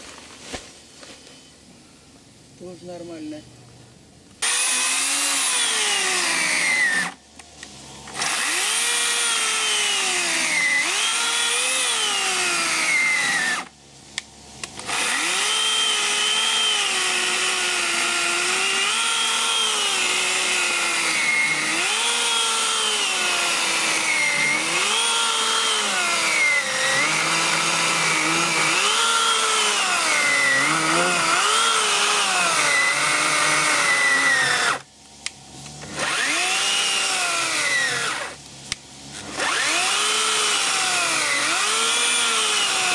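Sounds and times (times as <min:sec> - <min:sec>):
electric chainsaw cutting log: 0:04.4 - 0:42.9.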